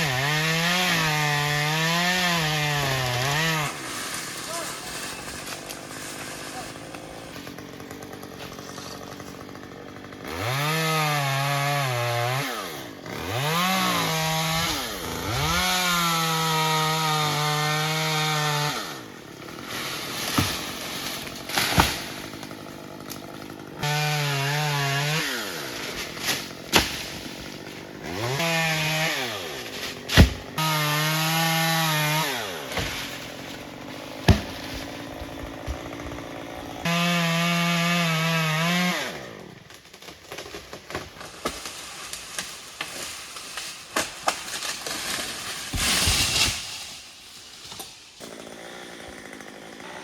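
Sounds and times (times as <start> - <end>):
chainsaw revving and cutting wood: 0.0 - 50.0.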